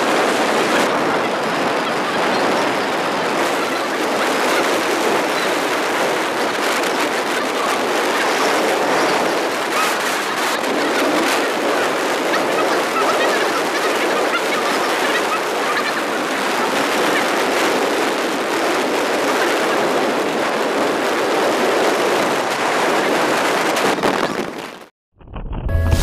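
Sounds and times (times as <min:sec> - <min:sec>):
motorcycle road noise: 0:00.0 - 0:24.8
wind rushing on microphone: 0:00.0 - 0:24.9.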